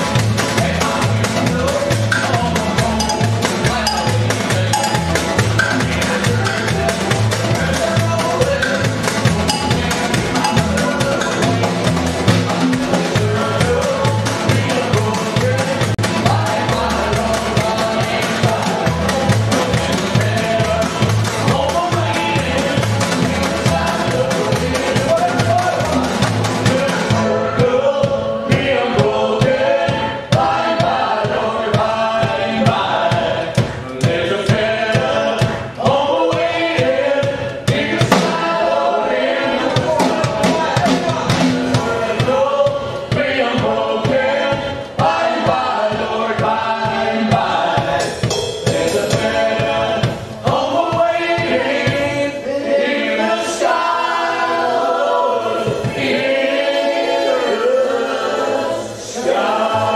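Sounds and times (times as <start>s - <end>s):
group of voices singing: 0.0s - 59.9s
skiffle band playing: 0.0s - 59.9s.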